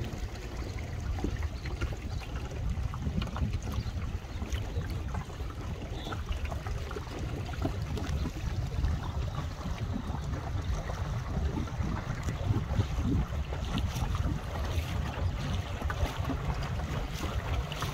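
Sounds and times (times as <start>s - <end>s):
small waves lapping: 0.0s - 17.9s
wind buffeting the microphone: 0.0s - 17.9s.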